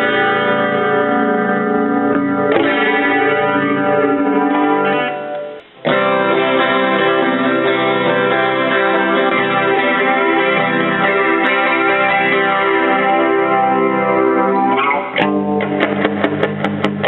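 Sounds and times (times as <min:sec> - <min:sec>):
clean electric guitar chords: 0:00.0 - 0:17.0.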